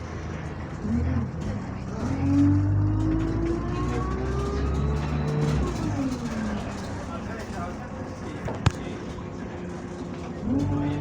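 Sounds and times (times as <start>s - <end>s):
bus engine pulling away: 0.0s - 11.0s.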